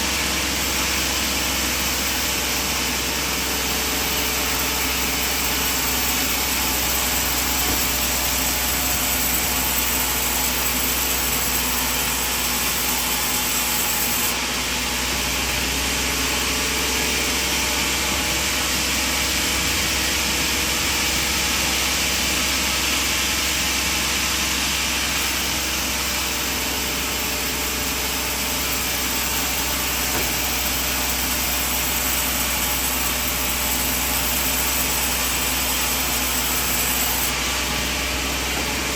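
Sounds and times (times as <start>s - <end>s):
sawmill machine drone: 0.0s - 38.9s.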